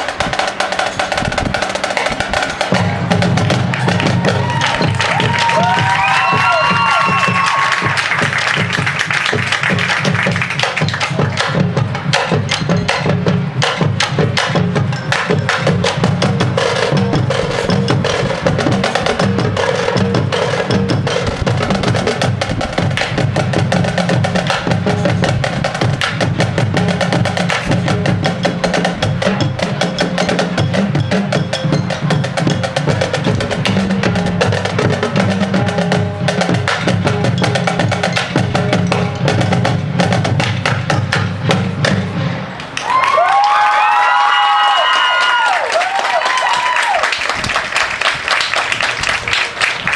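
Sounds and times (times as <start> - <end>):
fast drum strokes: 0.0 - 42.8
marching band playing: 0.0 - 49.9.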